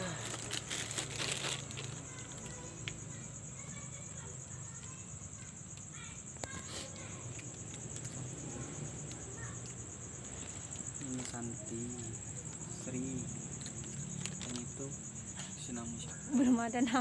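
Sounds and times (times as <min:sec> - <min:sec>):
low background hum: 0:00.0 - 0:17.0
night insects trilling: 0:00.0 - 0:17.0.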